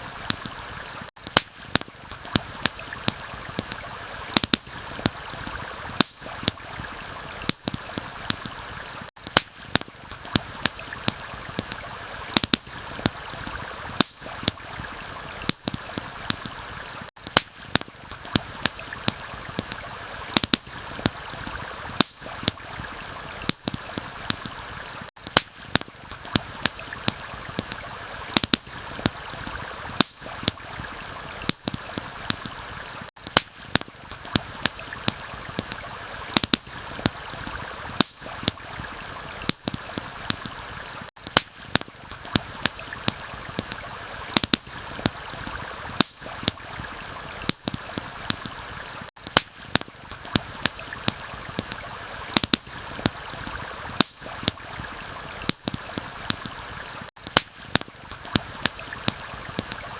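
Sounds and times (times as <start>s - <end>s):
campfire crackling and popping: 0.0s - 59.9s
stream flowing: 0.0s - 59.9s.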